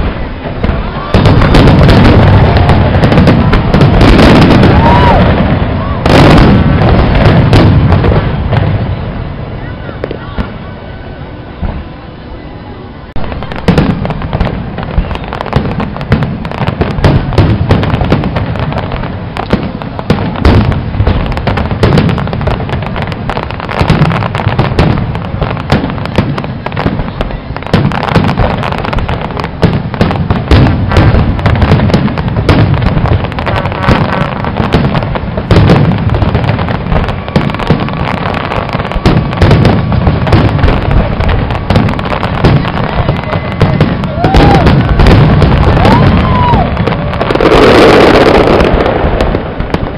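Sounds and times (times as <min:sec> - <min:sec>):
fireworks bangs and crackle: 0:00.0 - 0:49.9.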